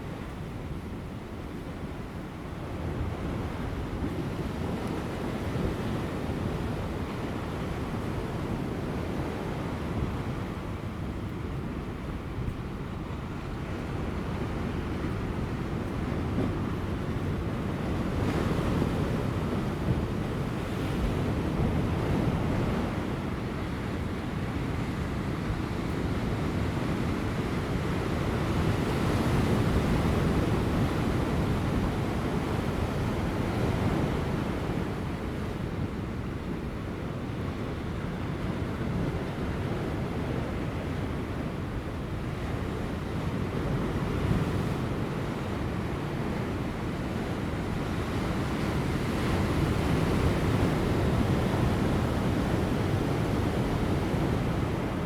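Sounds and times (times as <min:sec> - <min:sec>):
light wind: 0:00.0 - 0:55.0.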